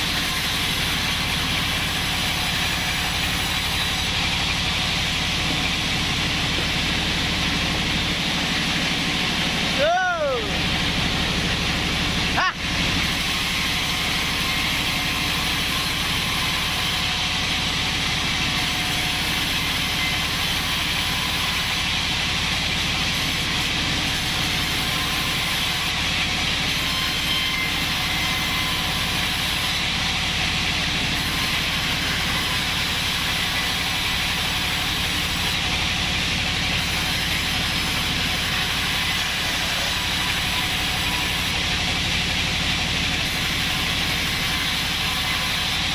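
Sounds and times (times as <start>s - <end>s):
band sawmill sawing log: 0.0s - 45.9s.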